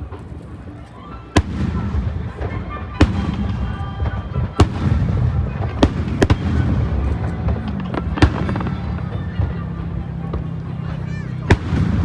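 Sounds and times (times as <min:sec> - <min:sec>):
fireworks bangs: 0:00.0 - 0:12.0
low rumble of explosions: 0:00.0 - 0:12.0.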